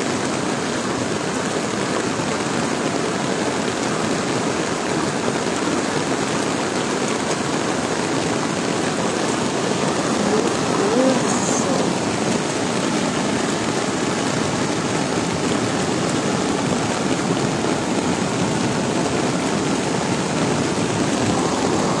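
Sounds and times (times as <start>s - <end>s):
floodwater rushing: 0.0s - 22.0s
heavy rain: 0.0s - 22.0s.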